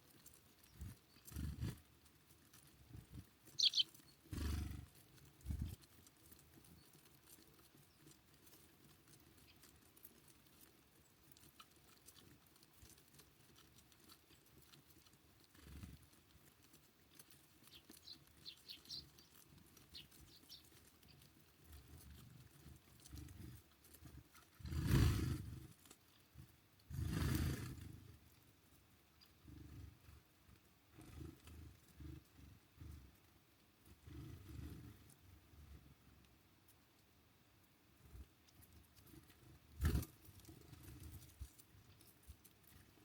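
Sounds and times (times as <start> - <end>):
songbirds chirping: 0.0 - 24.6, 25.5 - 43.0.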